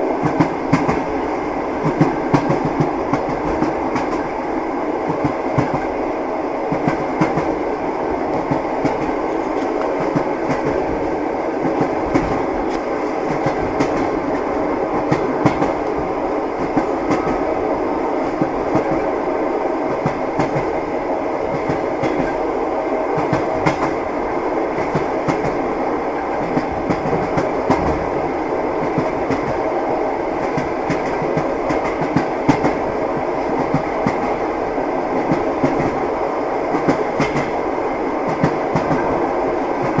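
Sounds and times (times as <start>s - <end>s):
train wheels clickety-clack: 0.0s - 4.4s, 5.0s - 6.0s, 6.7s - 7.6s, 8.2s - 17.5s, 18.1s - 19.2s, 19.8s - 20.8s, 21.4s - 22.5s, 23.1s - 40.0s
moving train carriage rumble: 0.0s - 40.0s.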